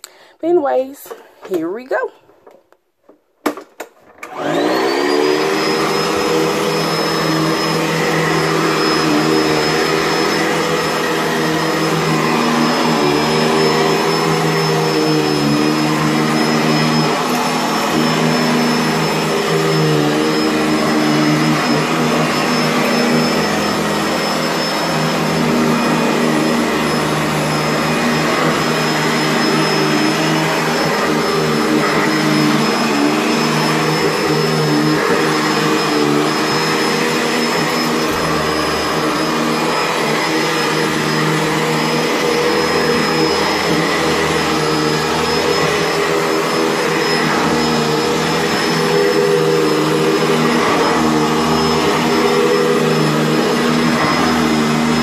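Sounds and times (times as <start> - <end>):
vacuum motor whining: 4.1 - 55.0.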